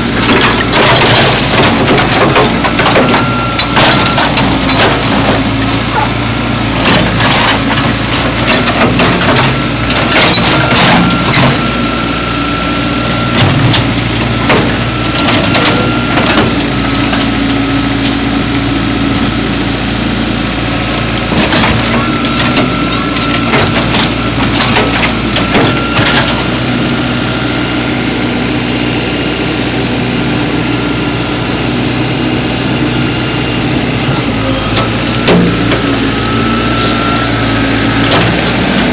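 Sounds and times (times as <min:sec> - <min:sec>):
backhoe engine running under load: 0:00.0 - 0:38.9.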